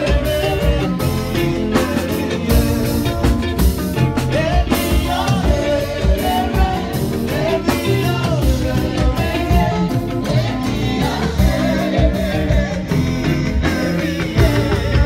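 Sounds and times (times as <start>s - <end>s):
choir singing: 0.0s - 3.6s, 4.2s - 15.0s
amplified band music: 0.0s - 15.0s
steady drum beat: 0.0s - 15.0s.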